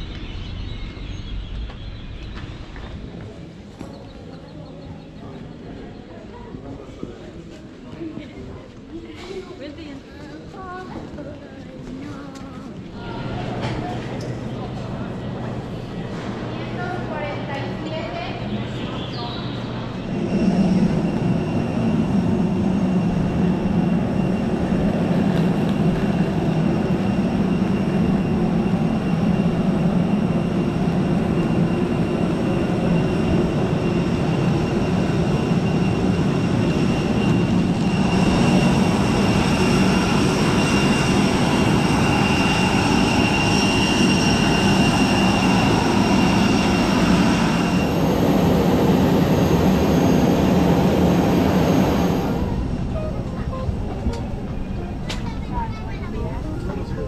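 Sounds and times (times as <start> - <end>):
high turbine whine: 0.0 - 7.5, 11.8 - 57.0
jet turbines rushing: 0.0 - 8.4, 10.4 - 57.0.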